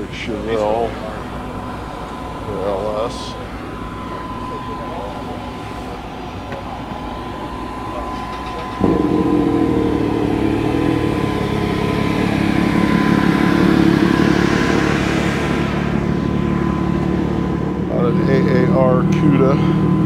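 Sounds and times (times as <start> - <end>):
faint steady tone: 0.0 - 20.0
vehicle engine running: 0.0 - 20.0.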